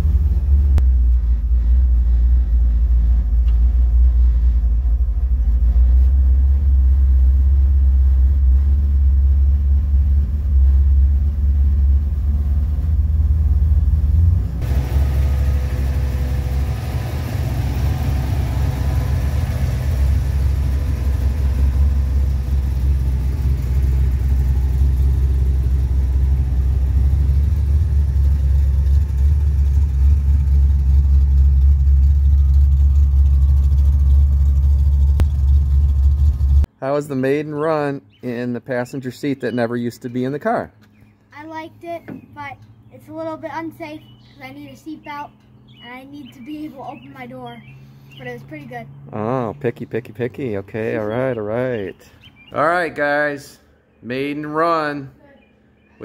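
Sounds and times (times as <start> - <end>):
car engine and exhaust rumble: 0.0 - 36.8, 42.1 - 55.9.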